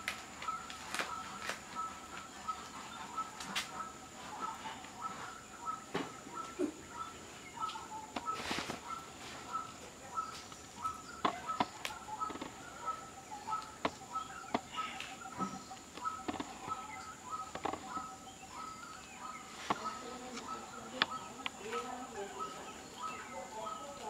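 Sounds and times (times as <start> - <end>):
bird calling: 0.0 - 24.0.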